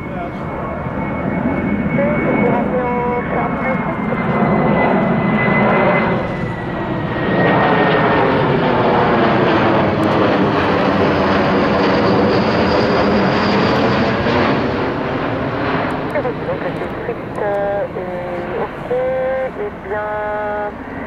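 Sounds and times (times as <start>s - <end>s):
high jet whine falling in pitch: 0.0s - 21.0s
jet aircraft engine noise: 0.0s - 21.0s.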